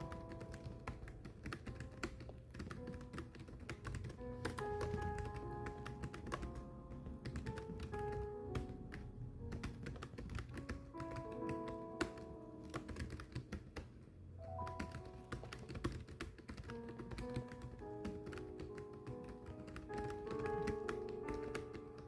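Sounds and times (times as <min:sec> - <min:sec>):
keyboard keys clacking: 0:00.0 - 0:22.0
soft background music: 0:00.0 - 0:22.0.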